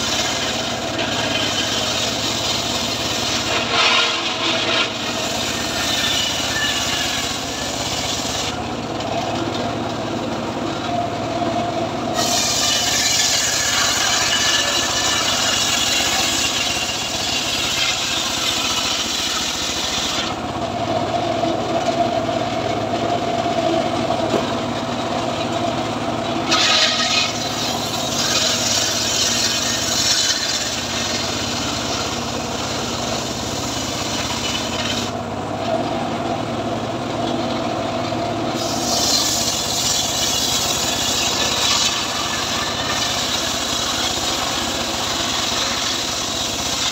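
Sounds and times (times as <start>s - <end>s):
circular saw cutting wood: 0.0s - 11.0s, 11.9s - 36.2s, 38.4s - 46.9s
circular saw blade running: 0.0s - 46.9s.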